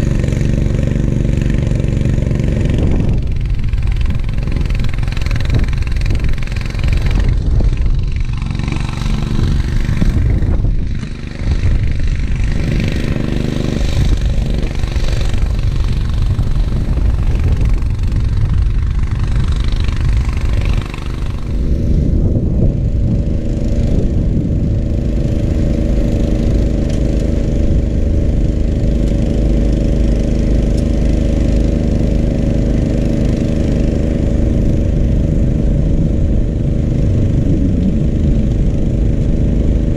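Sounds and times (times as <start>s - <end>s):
snowblower clattering: 0.0s - 39.9s
tractor engine running: 0.0s - 39.9s.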